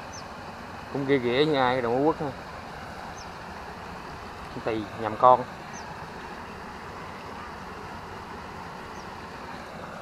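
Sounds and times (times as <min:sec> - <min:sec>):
outdoor background rush: 0:00.0 - 0:10.0.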